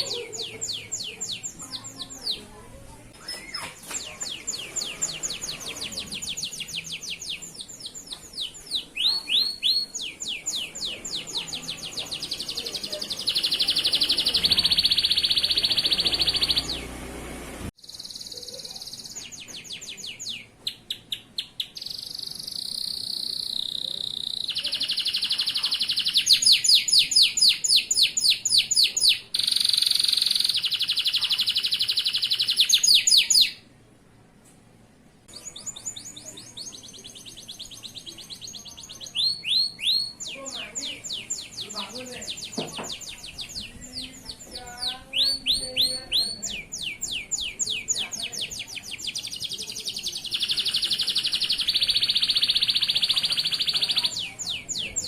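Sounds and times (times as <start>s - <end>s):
canary singing: 0.0s - 33.8s, 35.3s - 55.0s.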